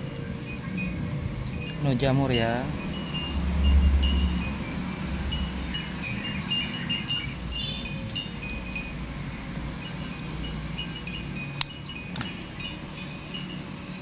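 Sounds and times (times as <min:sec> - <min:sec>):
light chimes ringing: 0:00.0 - 0:14.0.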